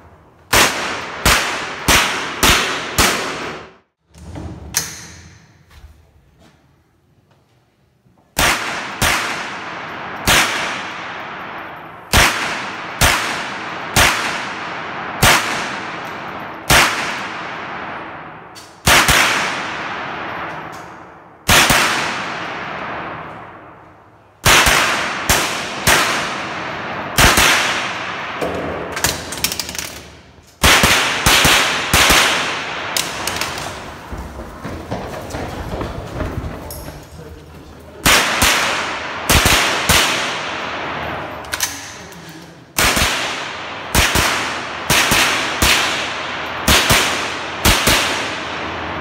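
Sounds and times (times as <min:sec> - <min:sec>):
rifle shots echoing indoors: 0:00.0 - 0:04.0, 0:08.2 - 0:35.4, 0:38.0 - 0:49.0.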